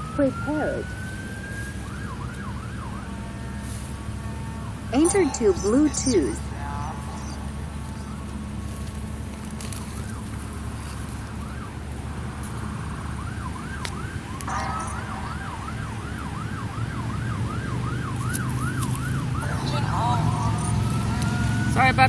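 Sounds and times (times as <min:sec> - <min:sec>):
emergency siren yelping: 0:00.0 - 0:22.0
highway traffic rumble: 0:00.0 - 0:22.0.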